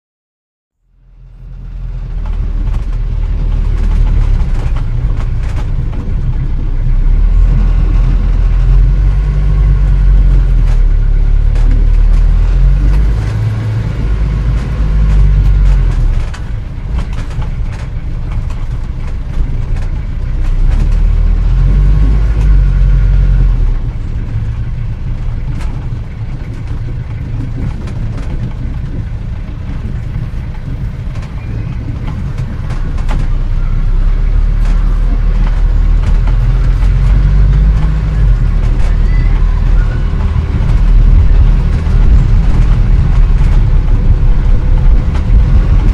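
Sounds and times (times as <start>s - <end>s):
car engine and road rumble: 0.7s - 45.9s
small rattles and knocks: 2.0s - 45.9s.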